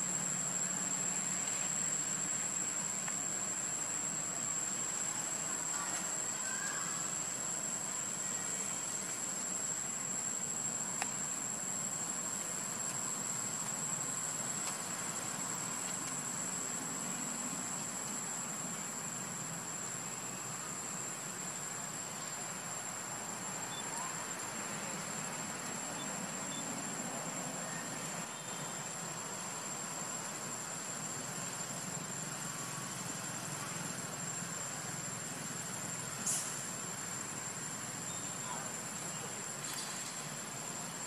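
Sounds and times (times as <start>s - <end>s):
background hiss: 0.0s - 41.0s
high-pitched insect drone: 0.0s - 41.0s.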